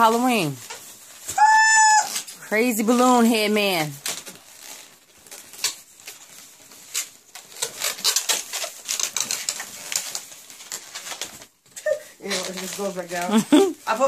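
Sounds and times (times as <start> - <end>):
balloons squeaking and rubbing: 0.0 - 14.0.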